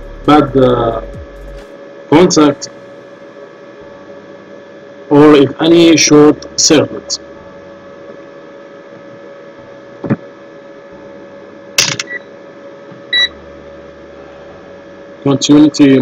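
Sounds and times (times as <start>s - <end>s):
mains hum: 0.0s - 16.0s.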